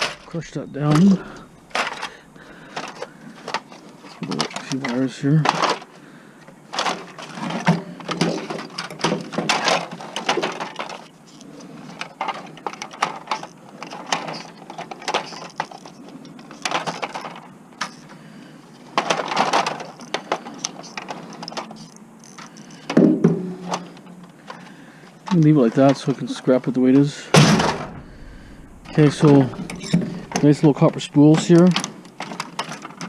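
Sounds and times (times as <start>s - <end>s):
plastic and metal parts rattling: 0.0s - 5.9s, 6.7s - 23.0s, 27.0s - 33.0s.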